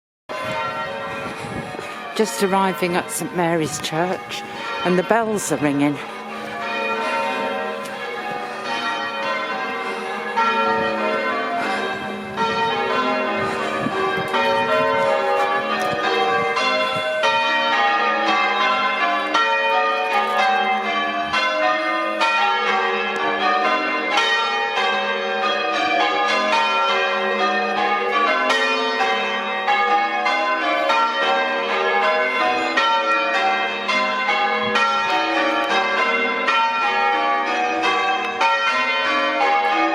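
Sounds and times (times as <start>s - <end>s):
church bells pealing: 0.3s - 39.9s.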